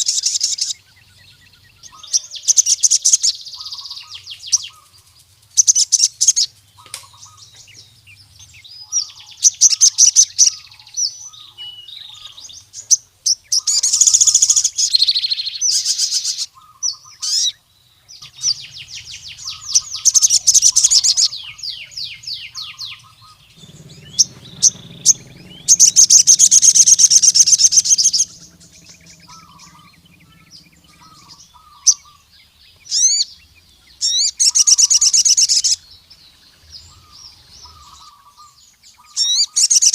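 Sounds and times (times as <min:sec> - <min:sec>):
sunbird chattering trills: 0:00.0 - 0:17.6, 0:18.2 - 0:39.9.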